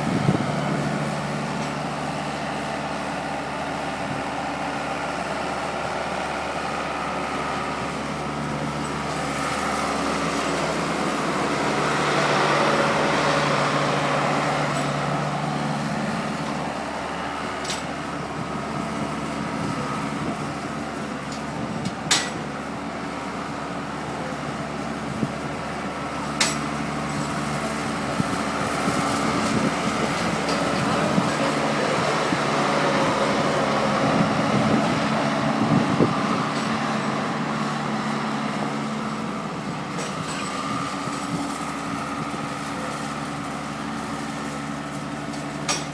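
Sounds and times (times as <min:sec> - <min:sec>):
skid steer loader engine running: 0:00.0 - 0:45.9.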